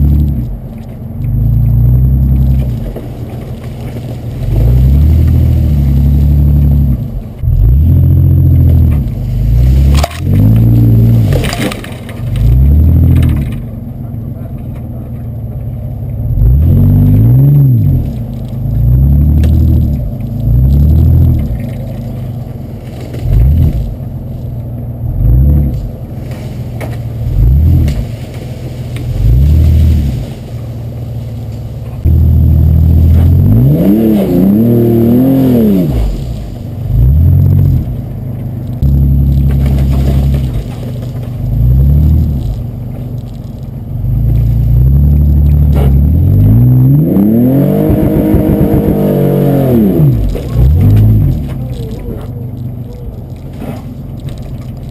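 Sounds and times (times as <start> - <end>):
engine revving: 0.0 - 0.6, 1.2 - 54.9.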